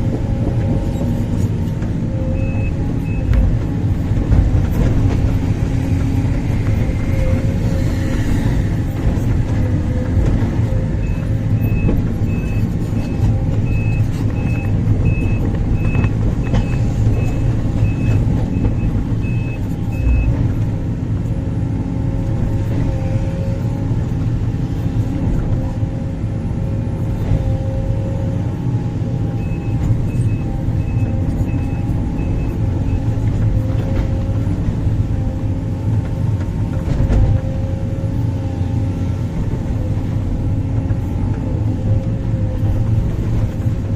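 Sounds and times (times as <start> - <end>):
excavator engine droning: 0.0 - 43.9.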